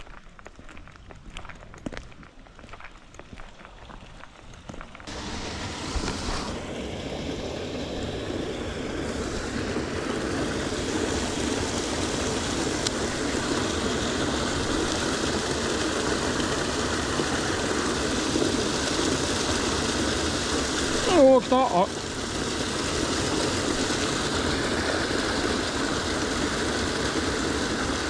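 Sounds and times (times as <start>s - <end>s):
water rushing in a channel: 5.1s - 28.0s.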